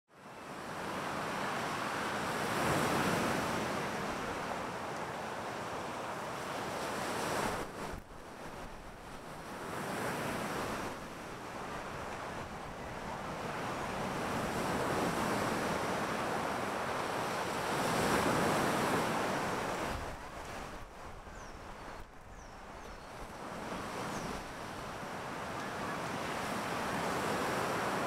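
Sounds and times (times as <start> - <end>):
ocean surf breaking: 0.7 - 22.3, 23.4 - 28.0.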